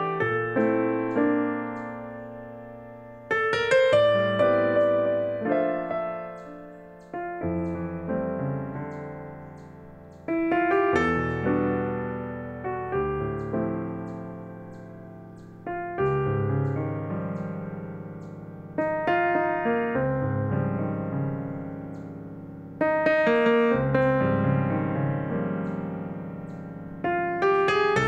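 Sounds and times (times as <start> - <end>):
solo piano chords and melody: 0.0 - 28.0.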